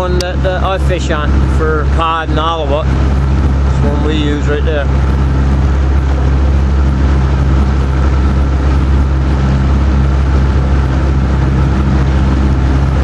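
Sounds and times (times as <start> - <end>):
motorboat engine running: 0.0 - 13.0
wind and water rushing: 0.0 - 13.0.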